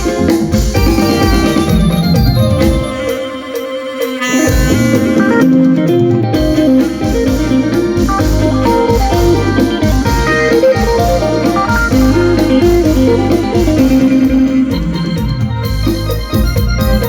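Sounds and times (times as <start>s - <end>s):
electric bass: 0.0s - 3.1s, 4.2s - 17.0s
steady drum beat: 0.0s - 3.6s, 4.2s - 17.0s.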